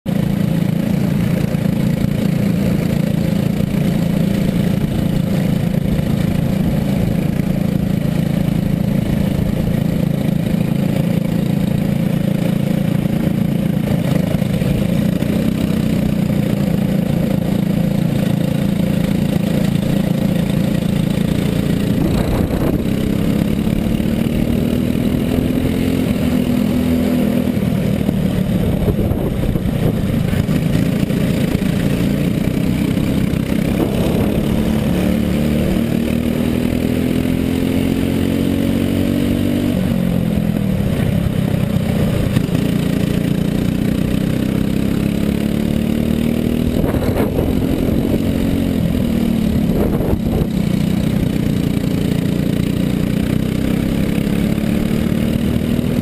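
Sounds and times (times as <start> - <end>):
kart engine running hard: 0.1 - 56.0.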